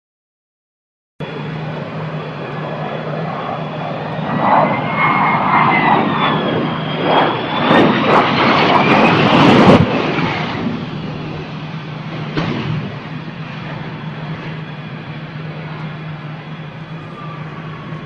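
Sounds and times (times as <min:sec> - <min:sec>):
jet engine turbine whine: 0:01.2 - 0:18.0.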